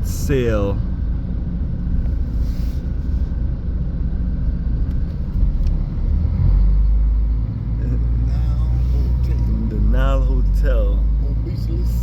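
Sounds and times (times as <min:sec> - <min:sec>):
vehicle rumble from inside: 0:00.0 - 0:12.0.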